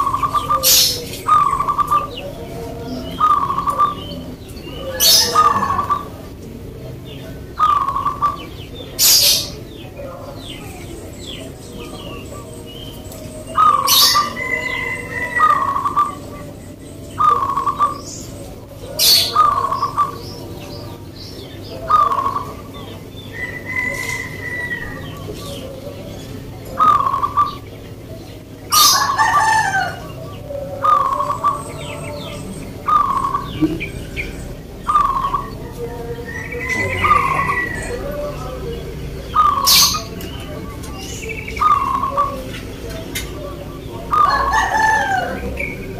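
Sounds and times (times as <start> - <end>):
birds chirping: 0.0 - 45.9
dove cooing: 0.0 - 45.9.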